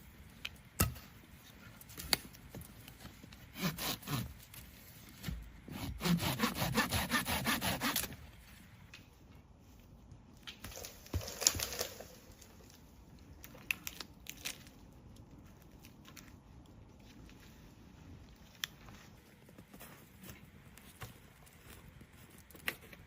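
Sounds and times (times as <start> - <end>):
rustling and crinkling handling: 0.0 - 3.5, 4.3 - 5.7, 8.2 - 23.0.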